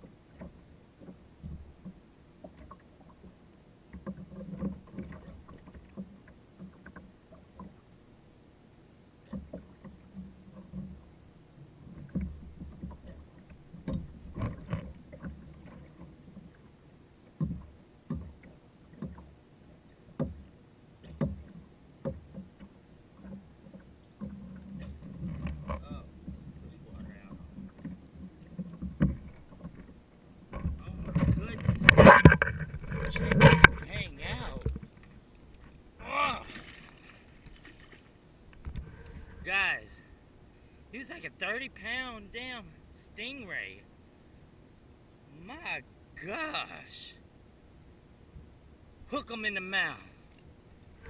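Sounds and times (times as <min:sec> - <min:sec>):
low steady rumble: 0:09.9 - 0:51.0.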